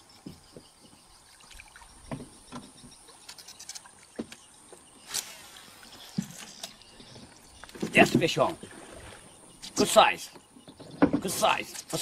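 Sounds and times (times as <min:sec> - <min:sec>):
quiet water: 0:00.0 - 0:12.0.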